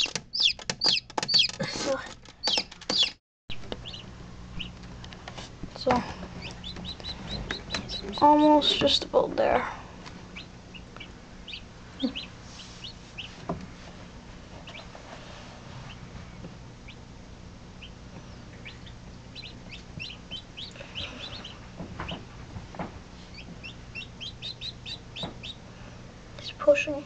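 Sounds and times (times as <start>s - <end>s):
chicks peeping: 0.0s - 13.5s, 14.4s - 26.8s
low steady hum: 0.0s - 27.0s.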